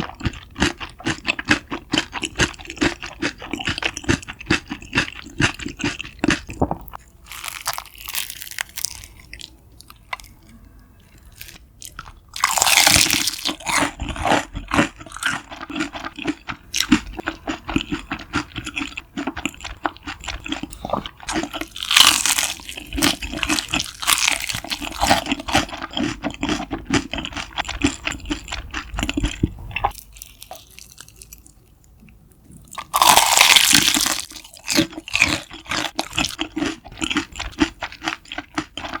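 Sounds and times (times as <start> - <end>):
crunchy bites into fried food: 0.0 - 9.5, 11.3 - 31.5, 32.7 - 39.0
crackly chewing: 0.0 - 39.0.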